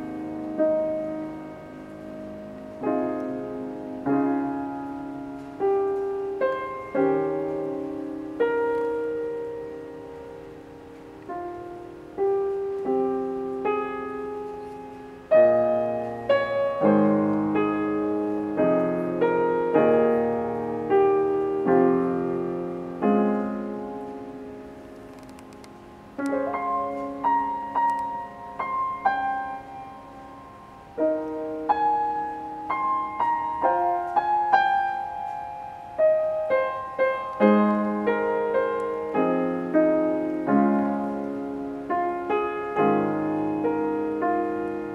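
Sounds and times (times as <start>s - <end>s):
grand piano improvisation: 0.0s - 44.9s.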